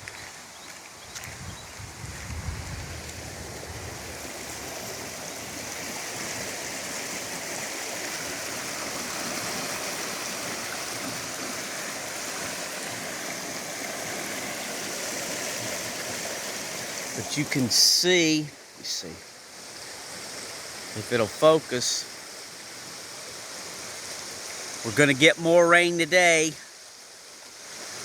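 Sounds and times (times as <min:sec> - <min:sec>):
floodwater rushing through creek: 0:00.0 - 0:28.0.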